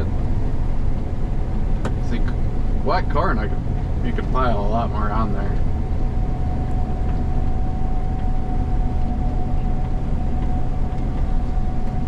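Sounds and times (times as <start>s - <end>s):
combine engine and machinery drone: 0.0s - 12.0s
thin constant whine: 0.0s - 12.0s.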